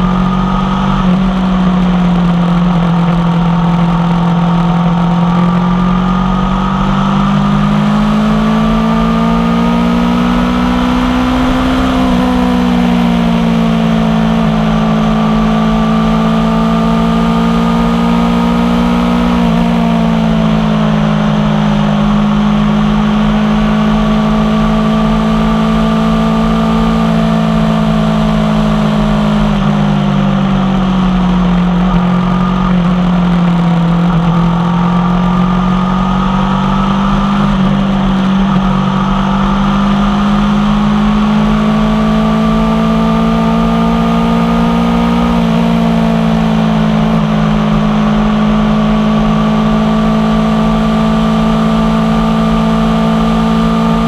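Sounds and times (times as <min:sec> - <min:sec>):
motorcycle engine at road speed: 0:00.0 - 0:54.0.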